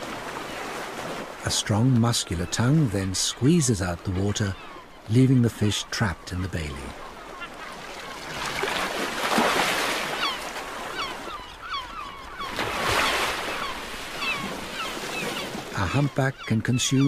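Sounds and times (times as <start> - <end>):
water surging and splashing: 0.0 - 11.4, 12.2 - 16.2
seabirds calling: 0.0 - 17.0.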